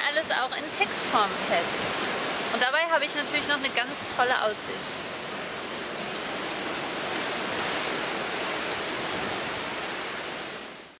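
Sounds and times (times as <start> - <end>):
sea rushing: 0.0 - 11.0.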